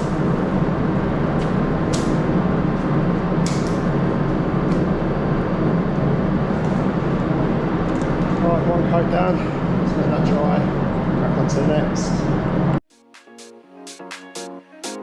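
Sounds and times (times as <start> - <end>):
low machine drone: 0.0 - 12.8.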